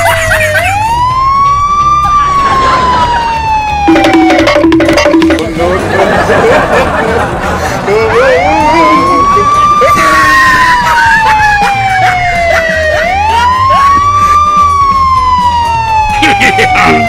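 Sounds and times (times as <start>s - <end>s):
wailing police siren: 0.0s - 5.6s, 8.1s - 17.0s.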